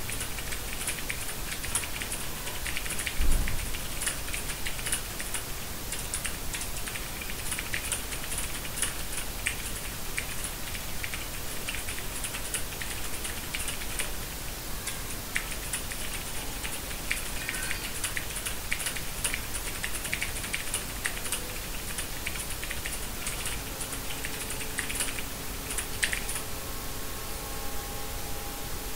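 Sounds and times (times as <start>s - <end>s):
steady hiss: 0.0s - 28.9s
mechanical keyboard typing: 0.1s - 14.1s, 14.9s - 26.5s.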